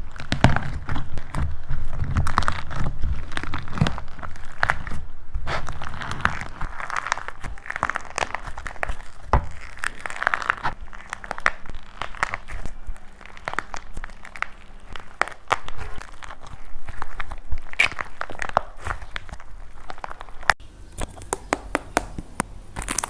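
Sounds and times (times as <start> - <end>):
clay crushed and cracked by hand: 0.0 - 23.0.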